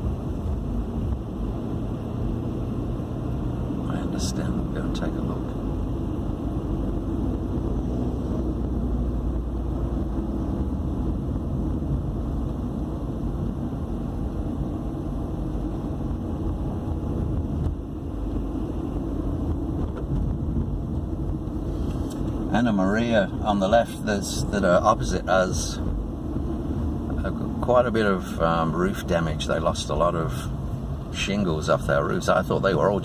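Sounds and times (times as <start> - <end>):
car cabin road and engine rumble: 0.0 - 33.0.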